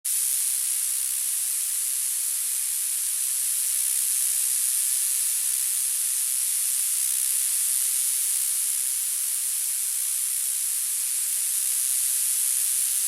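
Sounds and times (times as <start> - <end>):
high-pitched hiss: 0.1 - 13.0.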